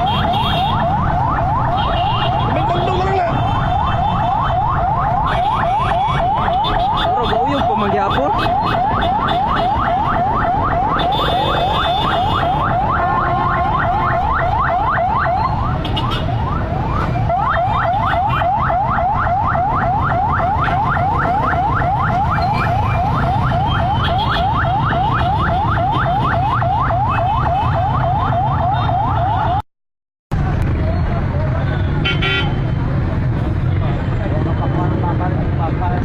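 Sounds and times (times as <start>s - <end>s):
electronic alarm rising wail: 0.0s - 29.6s.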